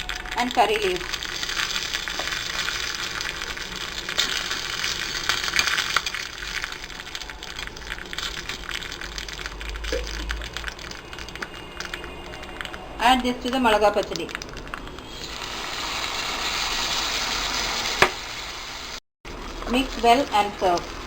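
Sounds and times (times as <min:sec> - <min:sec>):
spices sizzling in hot oil: 0:00.0 - 0:21.0.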